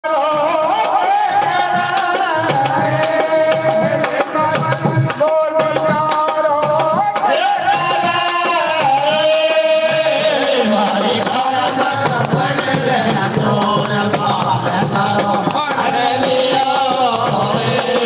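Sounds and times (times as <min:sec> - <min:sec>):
man singing devotional song: 0:00.0 - 0:18.0
hand drum beat: 0:00.3 - 0:18.0.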